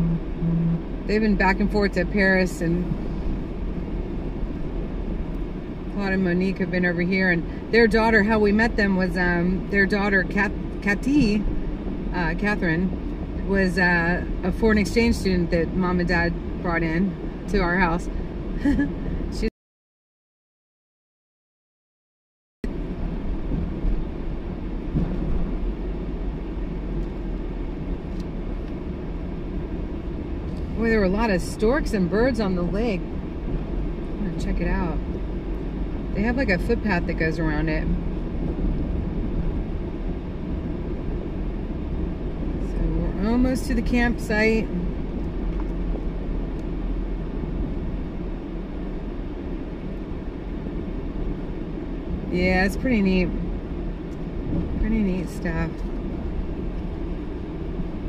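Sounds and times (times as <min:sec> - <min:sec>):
road and engine noise inside car: 0:00.0 - 0:19.5, 0:22.6 - 0:58.0.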